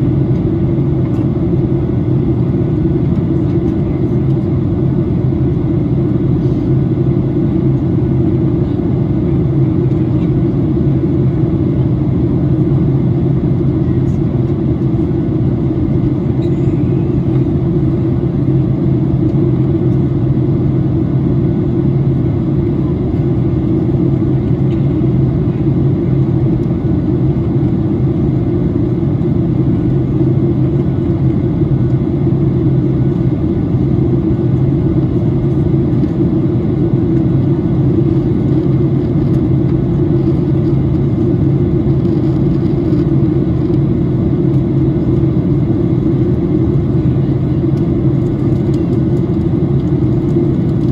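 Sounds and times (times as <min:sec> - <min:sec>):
airflow over fuselage: 0:00.0 - 0:50.9
jet engine drone: 0:00.0 - 0:50.9.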